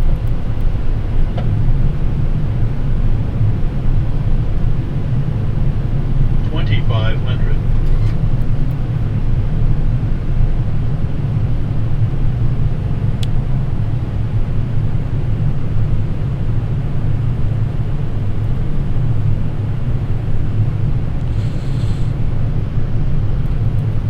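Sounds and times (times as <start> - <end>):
low rumble of airflow and engines: 0.0 - 24.0.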